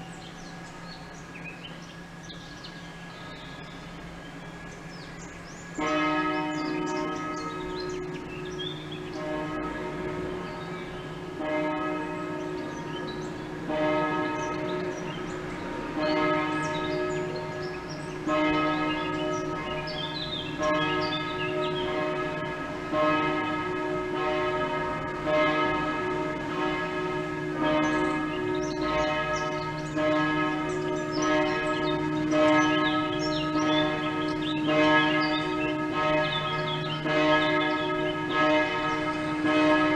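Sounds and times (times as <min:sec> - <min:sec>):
church bells ringing: 0:02.8 - 0:39.9.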